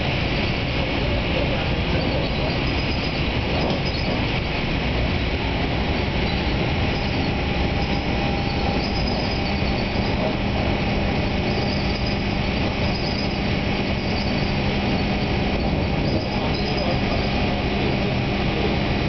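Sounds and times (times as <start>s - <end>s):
steady low hum: 0.0s - 19.0s
train running rumble: 0.0s - 19.0s.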